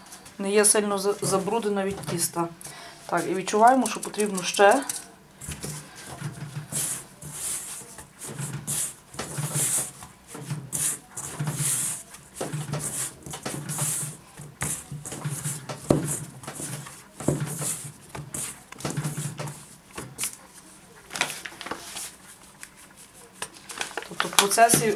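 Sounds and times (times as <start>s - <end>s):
hands kneading dough: 0.8s - 24.9s.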